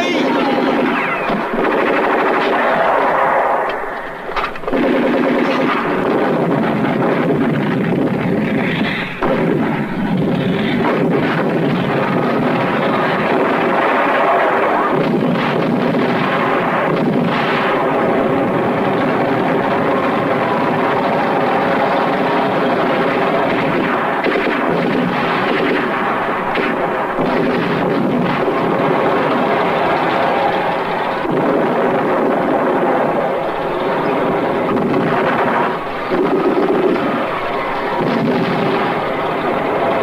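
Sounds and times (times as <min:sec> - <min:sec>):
artillery fire and gunfire: 0:00.0 - 0:40.0.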